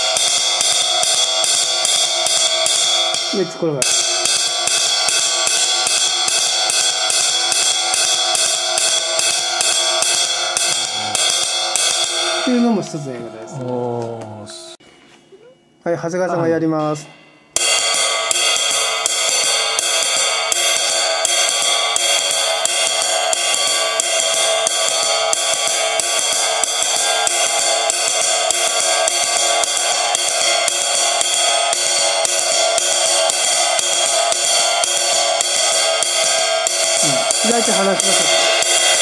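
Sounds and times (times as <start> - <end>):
ride cymbal played with drumstick: 0.0 - 14.7, 16.4 - 39.0.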